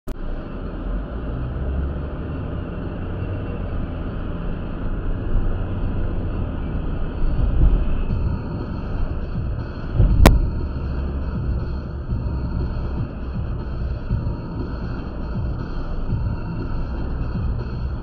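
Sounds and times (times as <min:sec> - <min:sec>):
car driving on wet road: 0:00.1 - 0:18.0.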